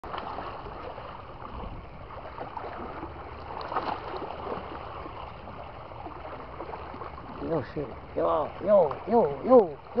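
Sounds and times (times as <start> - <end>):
sea water sloshing against hull: 0.0 - 10.0.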